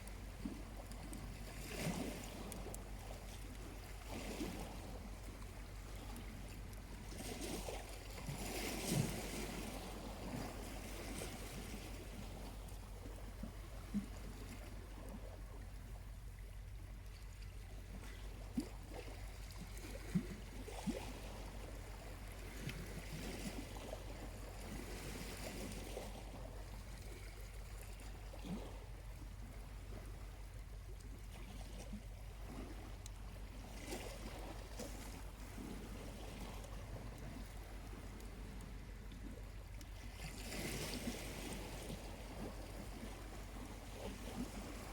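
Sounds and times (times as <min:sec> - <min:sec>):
small waves lapping on shore: 0:00.0 - 0:44.9.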